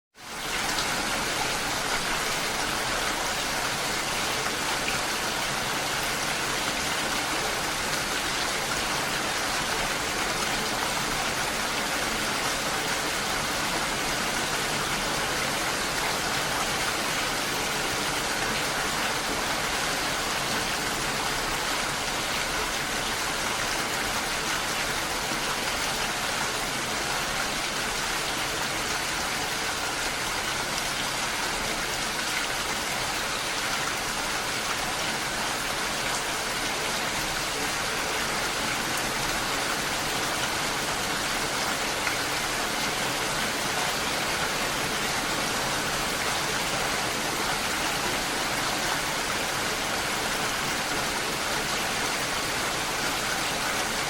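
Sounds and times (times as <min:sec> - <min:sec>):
steady rain hiss: 0:00.2 - 0:54.0.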